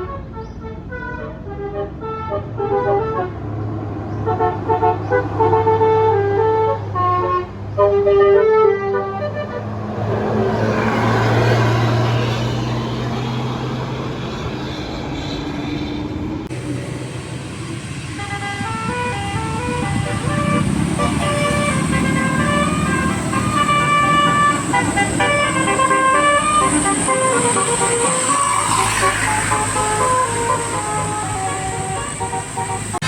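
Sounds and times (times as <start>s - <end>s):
multi-tone horn melody: 0.0s - 3.6s, 4.2s - 13.4s, 16.6s - 33.0s
bus engine droning: 0.0s - 33.0s.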